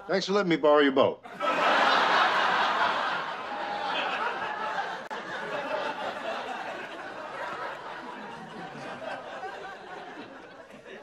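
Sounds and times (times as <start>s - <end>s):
audience laughing: 1.3s - 11.0s.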